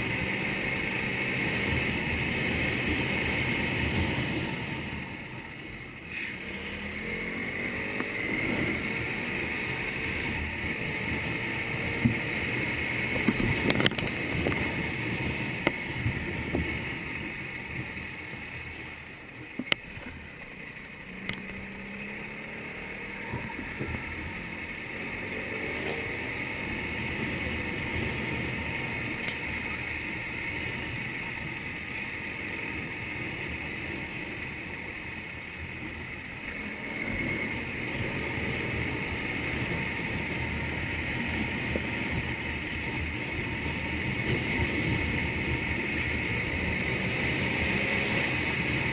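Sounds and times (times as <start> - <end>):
road noise: 0.0 - 48.9
vehicle engine running: 0.0 - 48.9.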